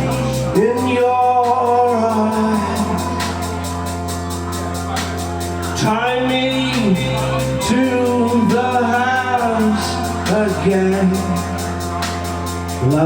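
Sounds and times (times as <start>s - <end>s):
sliding melody line: 0.0s - 13.0s
sustained keyboard chords: 0.0s - 13.0s.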